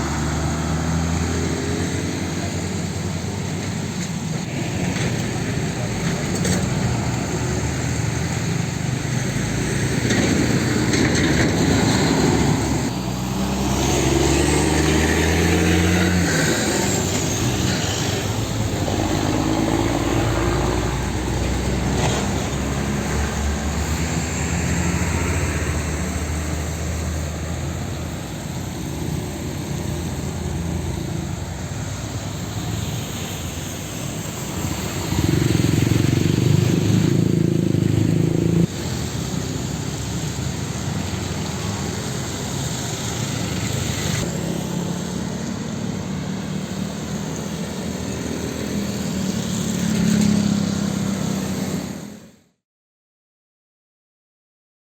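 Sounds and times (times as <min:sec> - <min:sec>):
low engine drone: 0:00.0 - 0:52.3
road traffic passing: 0:00.0 - 0:52.5.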